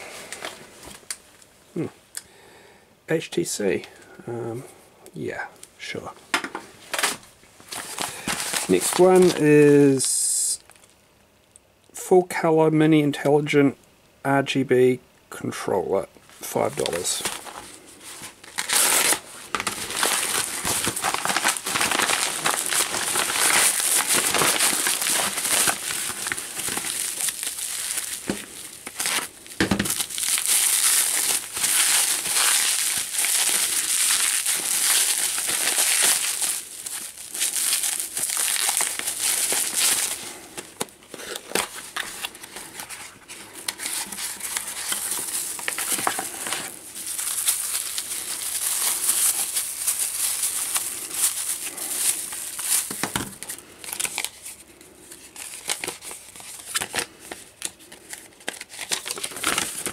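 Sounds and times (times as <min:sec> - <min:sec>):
plastic and bubble wrap crinkling: 0:05.9 - 0:11.0, 0:16.3 - 0:59.9.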